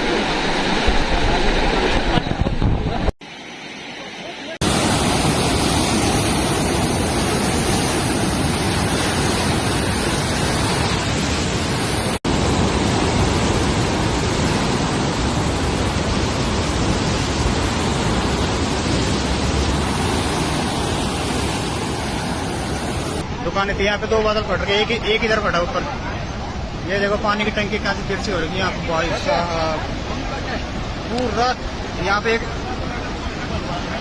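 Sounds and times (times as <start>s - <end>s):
floodwater roaring: 0.0s - 34.0s.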